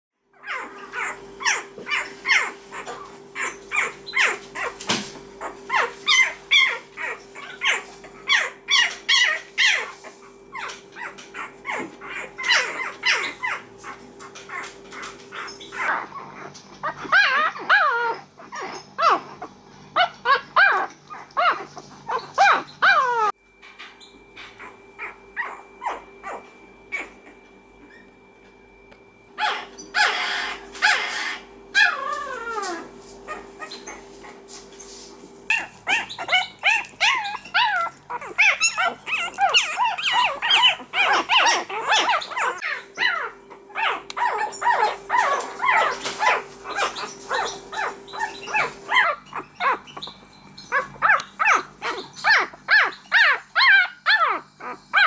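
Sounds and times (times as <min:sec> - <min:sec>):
puppies whining: 0:00.2 - 0:55.0
puppies squeaking and whimpering: 0:00.4 - 0:28.2, 0:29.4 - 0:55.0.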